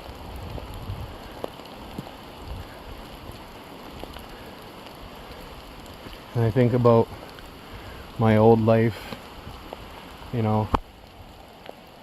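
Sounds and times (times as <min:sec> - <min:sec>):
rain falling on forest: 0:00.0 - 0:12.0.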